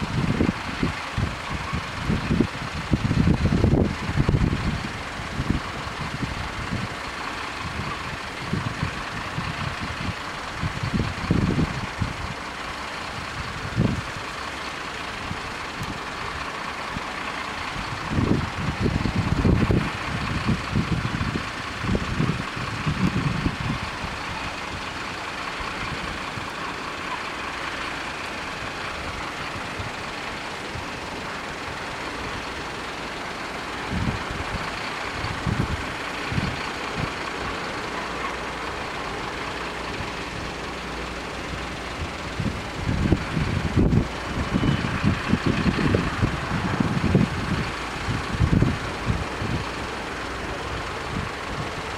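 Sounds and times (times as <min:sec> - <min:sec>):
low rumbles: 0:00.0 - 0:51.9.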